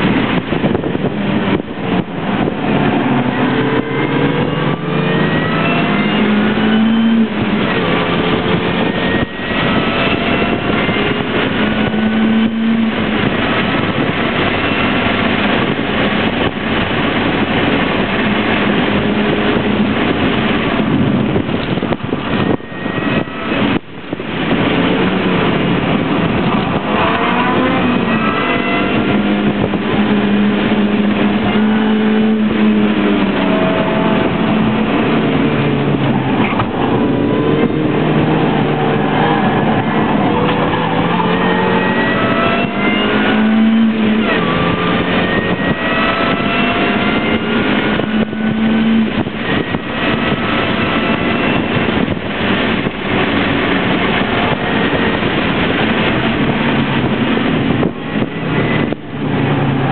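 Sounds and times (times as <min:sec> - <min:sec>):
car engine accelerating: 0:00.0 - 0:59.9
wind and tyre noise: 0:00.0 - 0:59.9.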